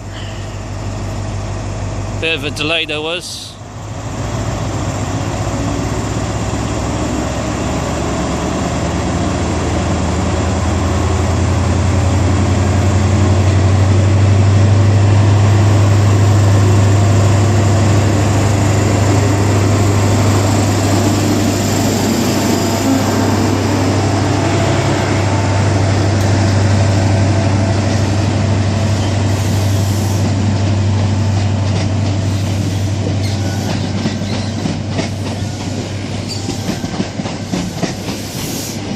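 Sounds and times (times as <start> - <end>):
diesel train engine under load: 0.0 - 38.9.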